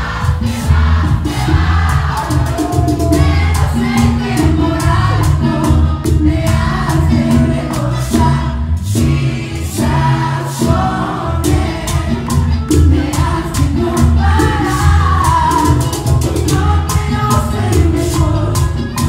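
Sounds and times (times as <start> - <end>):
men singing together: 0.0 - 19.0
steady percussion beat: 0.0 - 19.0
strong bass line: 0.0 - 19.0.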